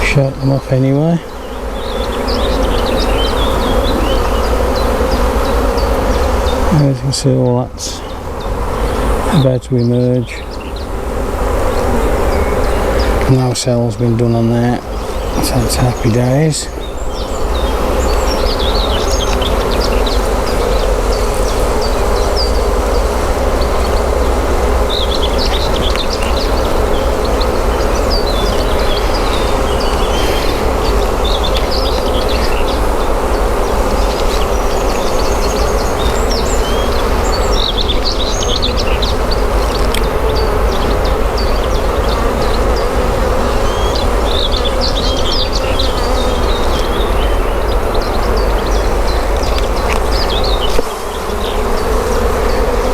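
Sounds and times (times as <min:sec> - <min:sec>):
honeybees buzzing: 0:00.0 - 0:52.9.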